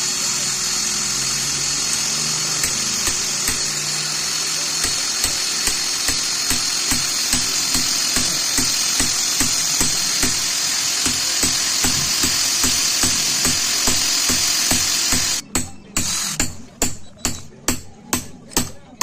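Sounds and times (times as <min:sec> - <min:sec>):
electric drill whining: 0:00.0 - 0:15.4, 0:16.0 - 0:16.4.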